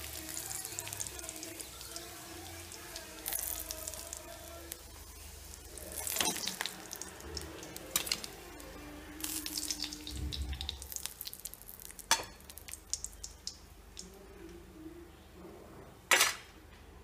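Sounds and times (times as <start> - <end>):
chicken frying in hot oil: 0.0 - 14.1.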